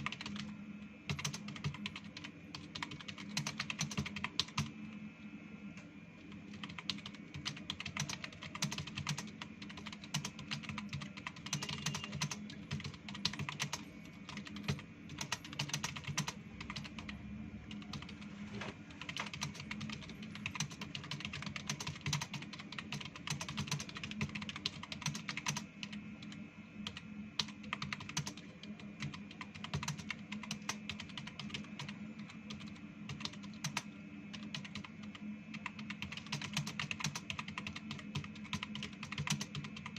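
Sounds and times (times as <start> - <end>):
fast keyboard typing: 0.0 - 0.5, 1.1 - 4.8, 6.3 - 39.9.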